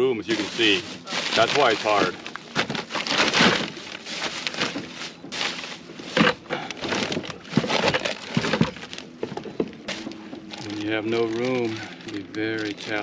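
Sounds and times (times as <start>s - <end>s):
crabbing gear clattering and knocking: 1.4s - 13.0s.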